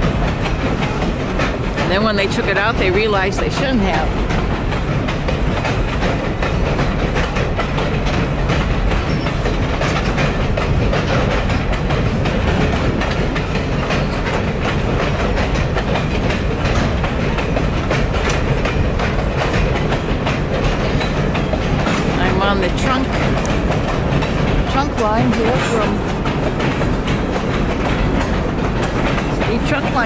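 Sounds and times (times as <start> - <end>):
freight train rumbling on bridge: 0.0 - 30.0
wheels clacking over rails: 0.0 - 30.0.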